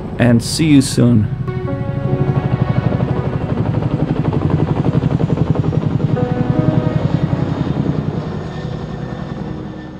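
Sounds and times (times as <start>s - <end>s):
helicopter rotor chopping: 1.3s - 9.9s.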